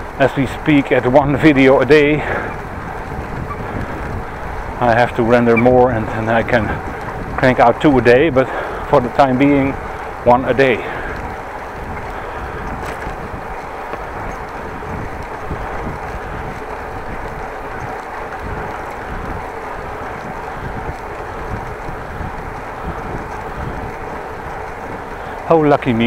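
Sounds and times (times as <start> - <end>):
wind noise on microphone: 0.0 - 26.0.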